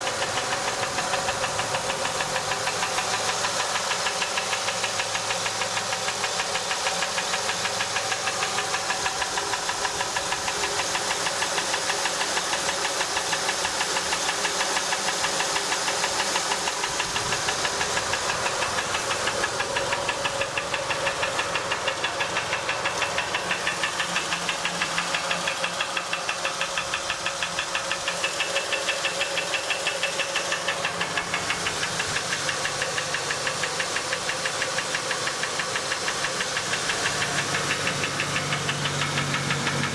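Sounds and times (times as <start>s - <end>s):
car engine ticking knock: 0.0s - 39.9s.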